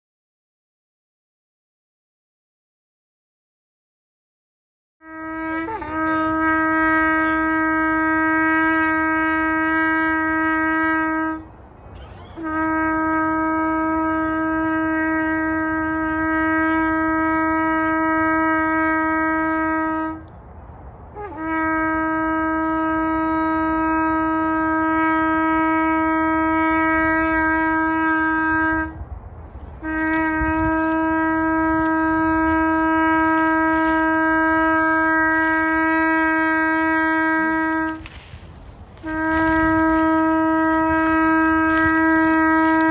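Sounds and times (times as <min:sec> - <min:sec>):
shofar blasts: 0:05.0 - 0:11.5, 0:12.3 - 0:20.2, 0:21.1 - 0:29.0, 0:29.8 - 0:42.9.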